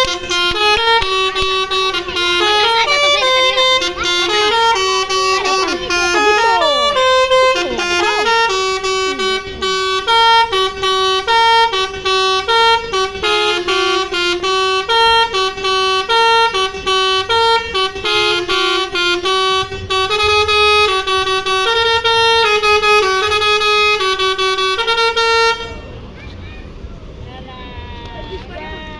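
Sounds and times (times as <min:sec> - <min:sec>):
musical bus horn tune: 0:00.0 - 0:26.0.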